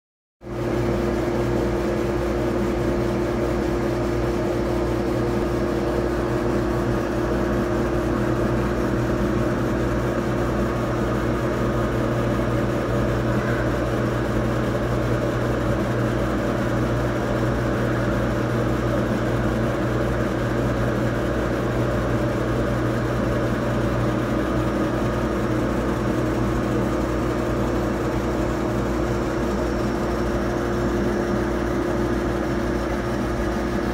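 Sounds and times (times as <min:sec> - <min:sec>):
laser engraver humming: 0:00.6 - 0:33.9.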